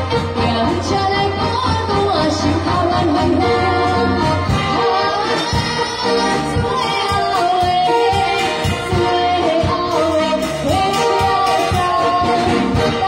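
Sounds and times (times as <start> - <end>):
amplified backing music: 0.0 - 13.0
woman singing into microphone: 0.0 - 13.0.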